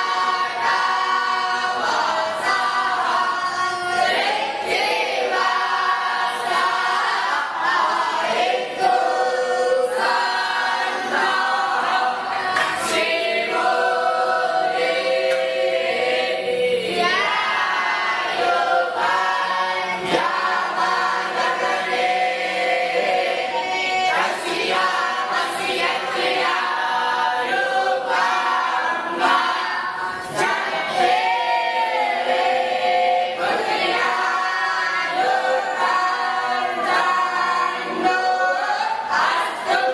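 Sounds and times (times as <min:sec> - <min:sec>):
group of voices singing: 0:00.0 - 0:39.9.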